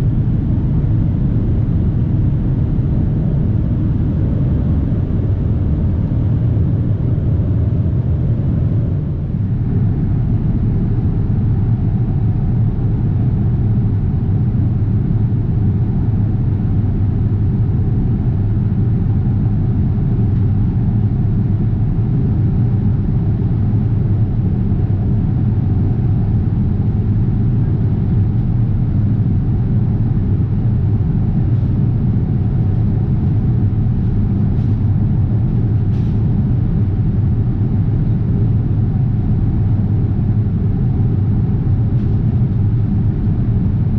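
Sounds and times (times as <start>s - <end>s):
airplane cabin rumble: 0.0s - 43.9s.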